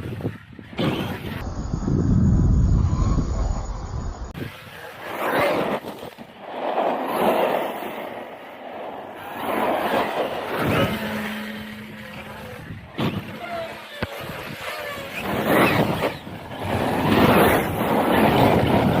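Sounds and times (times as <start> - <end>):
rc truck motor and tyres: 0.0 - 19.0.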